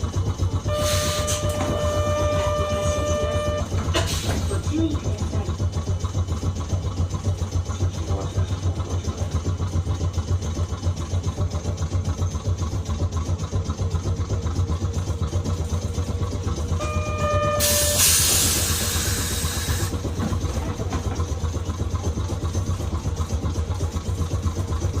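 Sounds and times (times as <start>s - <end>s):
streetcar hum and rumble: 0.0s - 25.0s.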